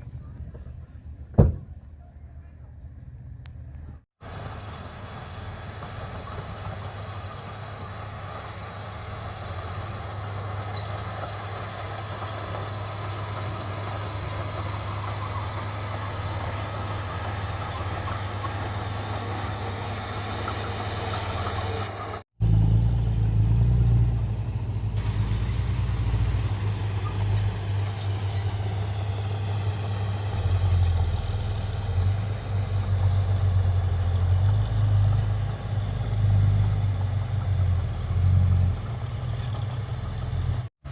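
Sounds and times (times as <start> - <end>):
heavy diesel machinery engine drone: 4.2 - 40.9.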